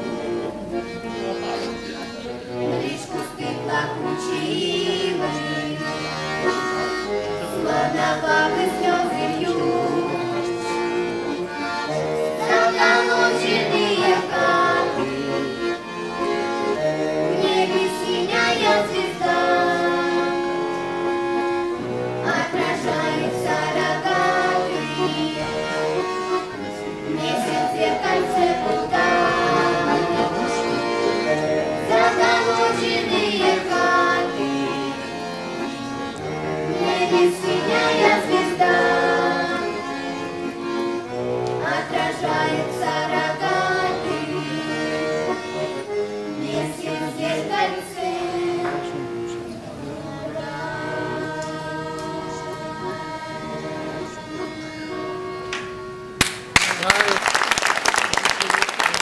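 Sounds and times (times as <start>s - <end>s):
button accordion playing folk melody: 0.0s - 57.2s.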